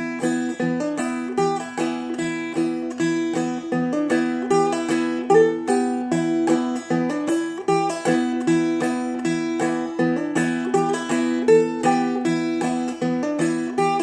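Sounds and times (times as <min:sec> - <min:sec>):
plucked dulcimer notes: 0:00.0 - 0:14.0.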